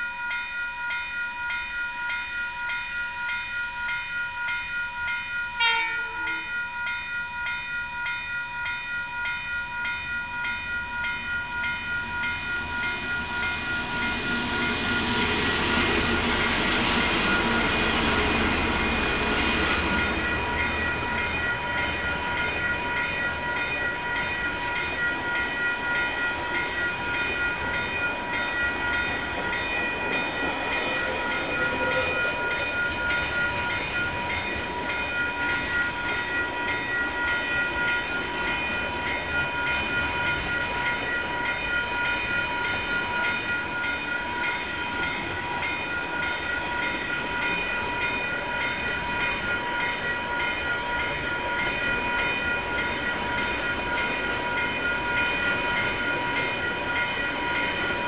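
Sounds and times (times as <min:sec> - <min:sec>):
level crossing bell ringing: 0:00.0 - 0:15.5, 0:16.1 - 0:58.0
train wheels rolling: 0:09.9 - 0:58.0.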